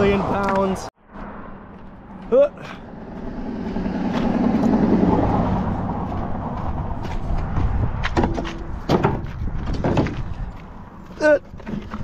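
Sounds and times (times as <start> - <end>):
road vehicle noise: 0.0 - 12.0.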